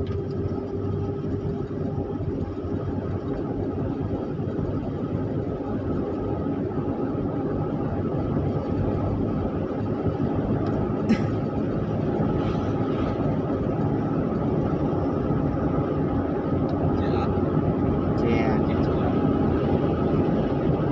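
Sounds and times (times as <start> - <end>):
car engine and tyre noise: 0.0 - 20.9.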